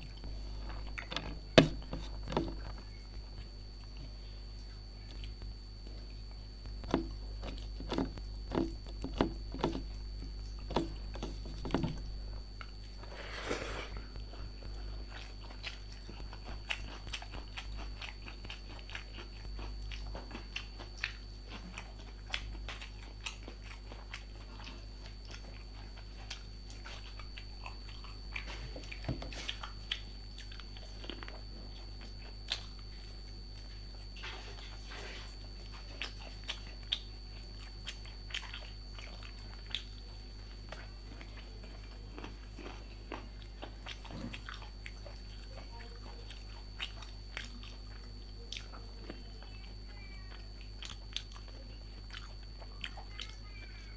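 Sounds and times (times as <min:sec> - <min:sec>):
crunchy bites and chewing: 0:00.0 - 0:53.9.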